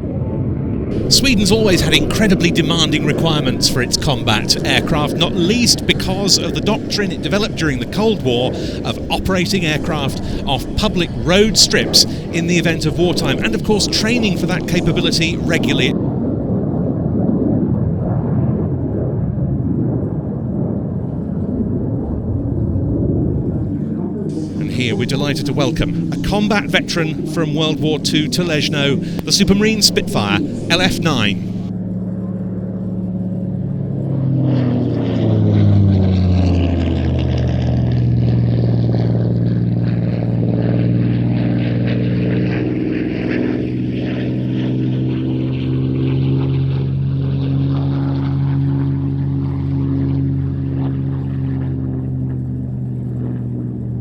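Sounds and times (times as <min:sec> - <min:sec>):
jet engine roaring overhead: 0:00.0 - 0:54.0.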